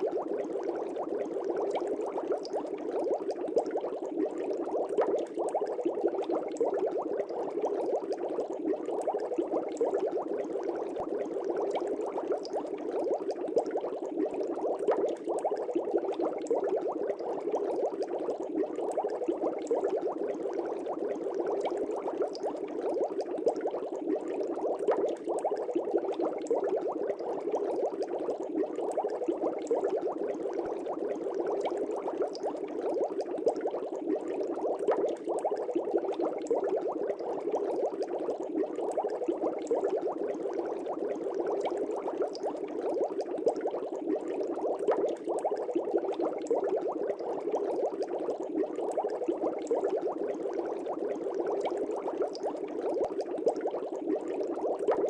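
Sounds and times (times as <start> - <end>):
aquarium air bubbles popping: 0.0 - 55.0.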